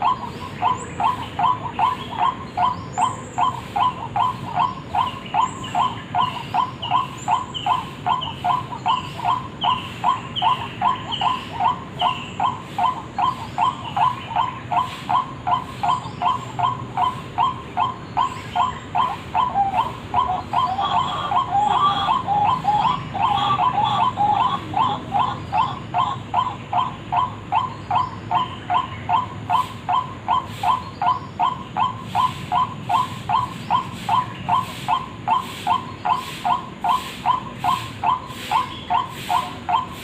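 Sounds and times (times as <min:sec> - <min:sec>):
overlapping bird calls: 0:00.0 - 0:40.0
waterhen calls: 0:00.0 - 0:40.0.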